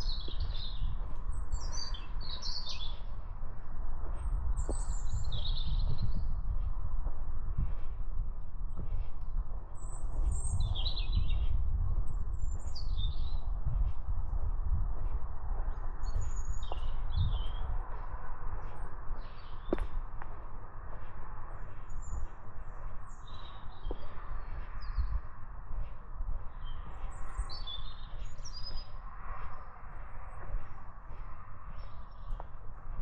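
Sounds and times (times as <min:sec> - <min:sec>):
small birds chirping: 0:00.0 - 0:03.3, 0:04.0 - 0:06.6, 0:08.8 - 0:14.0, 0:15.6 - 0:33.0
steady low rumble: 0:00.0 - 0:33.0.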